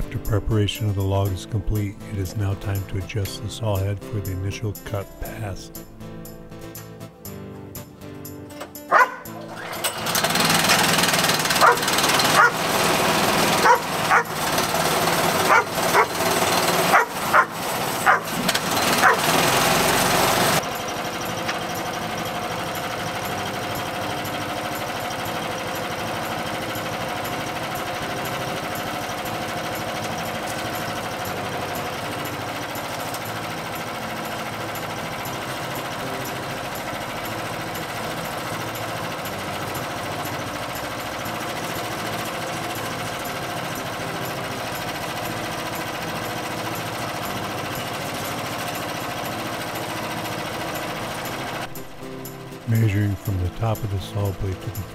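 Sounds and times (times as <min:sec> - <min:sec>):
small gasoline engine idling: 0:08.8 - 0:54.9.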